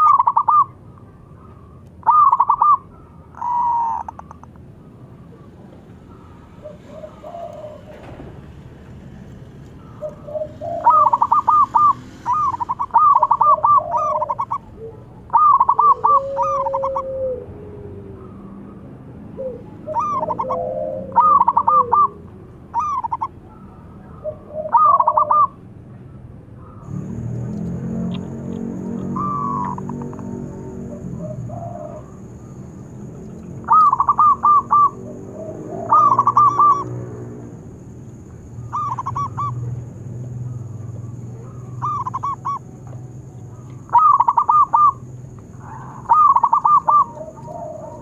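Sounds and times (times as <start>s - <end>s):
dove cooing: 0.0s - 8.4s, 9.8s - 25.6s, 27.8s - 37.9s, 38.6s - 48.0s.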